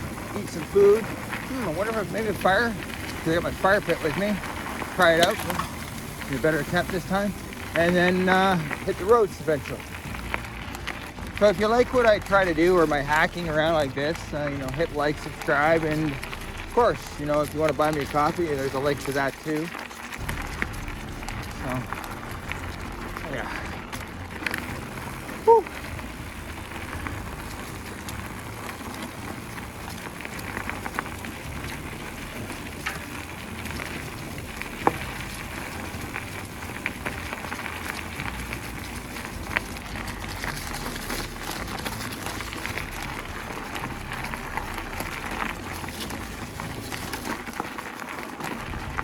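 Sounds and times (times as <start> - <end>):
bike clicks and rattles: 0.0 - 49.0
bike tyres on dirt trail: 0.0 - 49.0.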